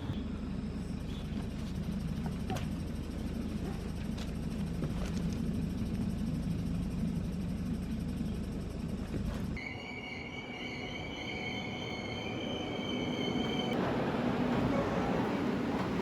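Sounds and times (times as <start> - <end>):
passenger train rumbling: 0.0 - 16.0.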